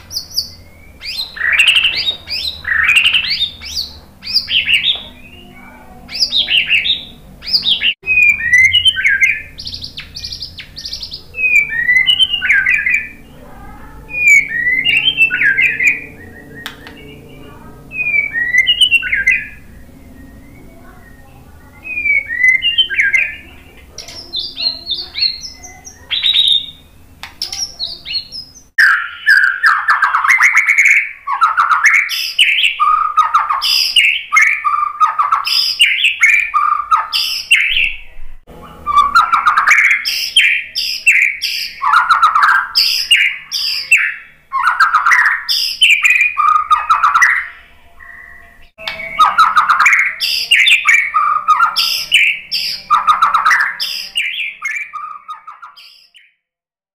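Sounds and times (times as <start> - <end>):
bird singing whistled song: 0.0 - 38.1, 38.8 - 56.4.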